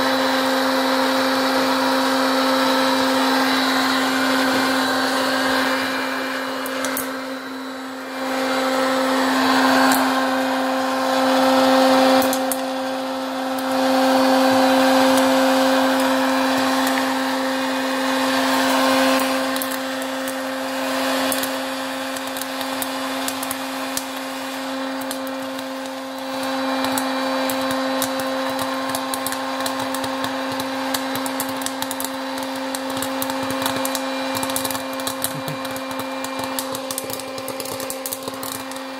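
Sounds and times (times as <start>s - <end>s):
popcorn maker fan humming: 0.0s - 38.9s
popcorn kernels popping: 2.5s - 7.4s, 8.3s - 38.9s.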